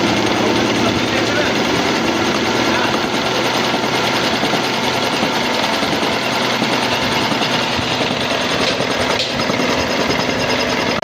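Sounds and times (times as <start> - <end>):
constant machine noise: 0.0 - 11.0
milling cutter rattling against metal: 0.0 - 11.0.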